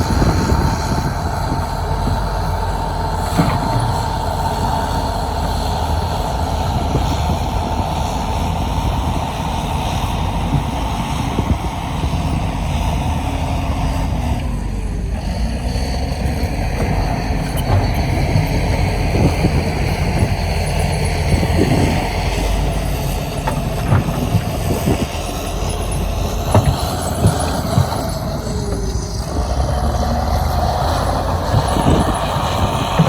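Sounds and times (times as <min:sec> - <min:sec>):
heavy diesel machinery rumbling: 0:00.0 - 0:33.0.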